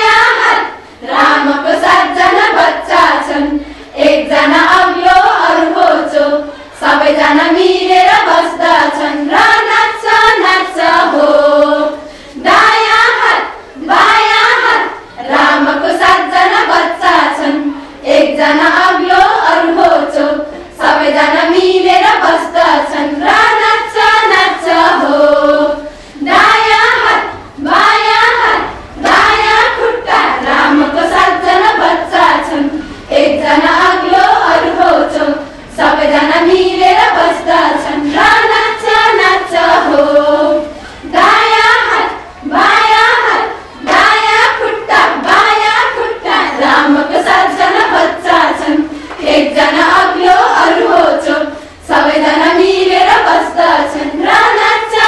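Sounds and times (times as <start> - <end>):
women singing together: 0.0 - 55.0.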